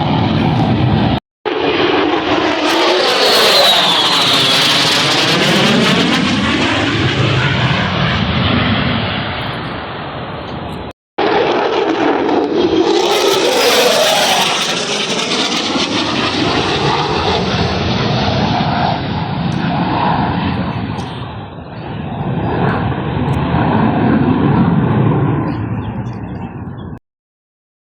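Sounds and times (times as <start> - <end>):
aircraft engine flying past: 0.0 - 27.0.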